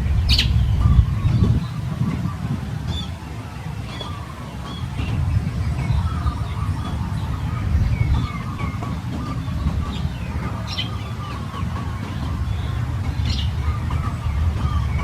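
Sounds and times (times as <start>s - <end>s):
birds chirping and whistling: 0.0s - 15.0s
low steady rumble: 0.0s - 15.0s.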